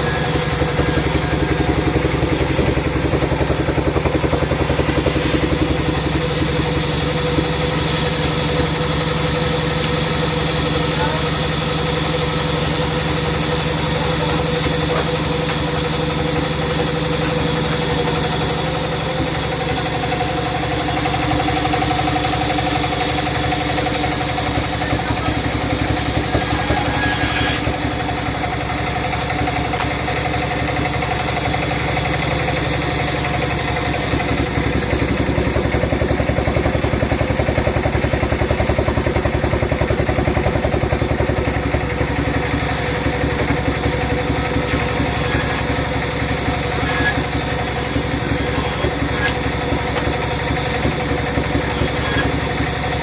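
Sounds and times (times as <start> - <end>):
sawmill engine running: 0.0 - 53.0.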